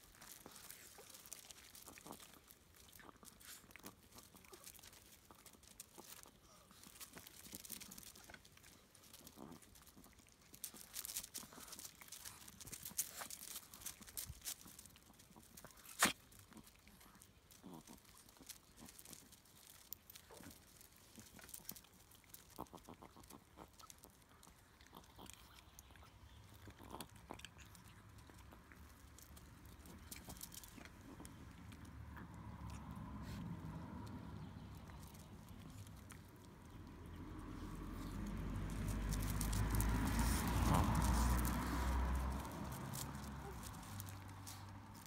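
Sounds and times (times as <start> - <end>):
dogs crunching dry kibble: 0.0 - 45.0.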